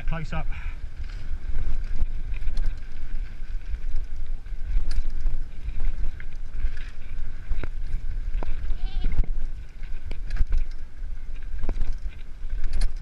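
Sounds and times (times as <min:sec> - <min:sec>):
tyres on dirt trail: 0:00.0 - 0:13.0
wind buffeting microphone: 0:00.0 - 0:13.0.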